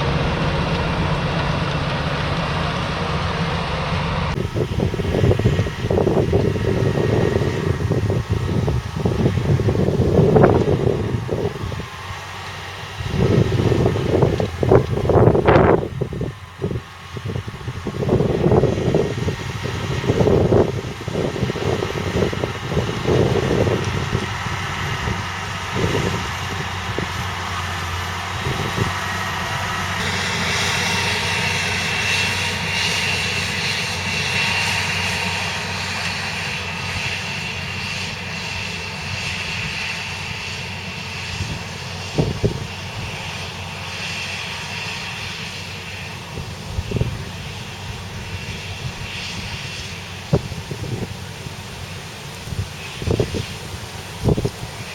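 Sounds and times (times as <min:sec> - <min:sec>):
steady high whine: 0:00.0 - 0:54.9
tractor diesel engine running: 0:00.0 - 0:54.9.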